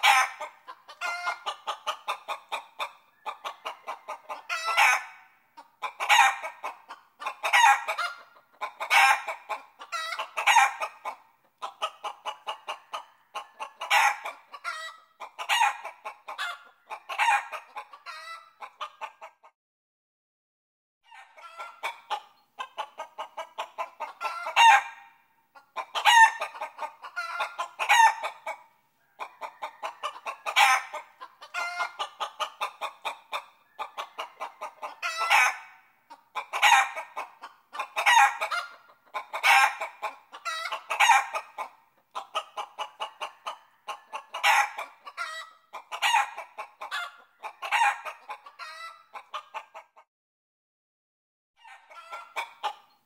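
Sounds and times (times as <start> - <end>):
chickens clucking: 0.0 - 19.6, 21.1 - 50.1, 51.6 - 53.0.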